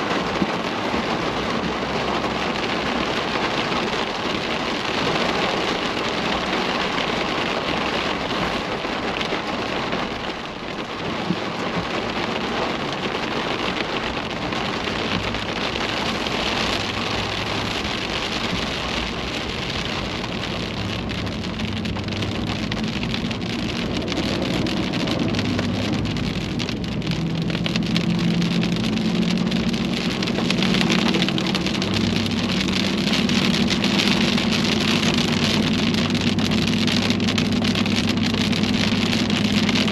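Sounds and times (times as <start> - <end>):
car engine and road hum: 0.0 - 39.9
rain pelting a car: 0.0 - 39.9.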